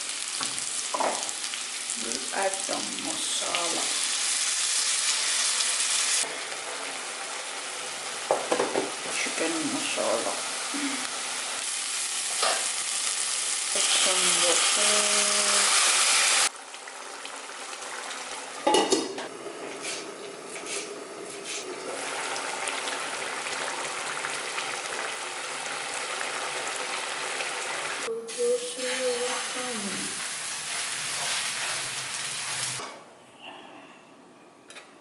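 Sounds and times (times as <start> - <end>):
curry sizzling in a pan: 0.0 - 32.8.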